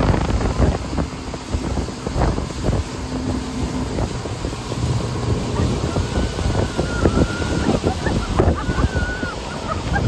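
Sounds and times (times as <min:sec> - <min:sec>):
boat wake rushing: 0:00.0 - 0:10.0
outboard motor humming: 0:00.0 - 0:10.0
wind buffeting microphone: 0:00.0 - 0:10.0.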